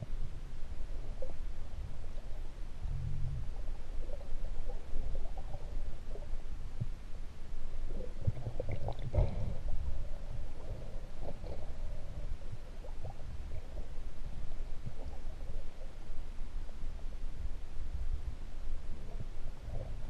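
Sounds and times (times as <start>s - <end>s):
underwater rumble of sea water: 0.0s - 20.0s.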